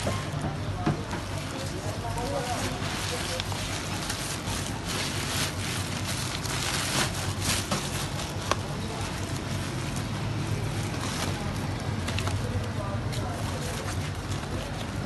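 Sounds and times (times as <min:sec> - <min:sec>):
bubble wrap rustling: 0:01.3 - 0:15.0.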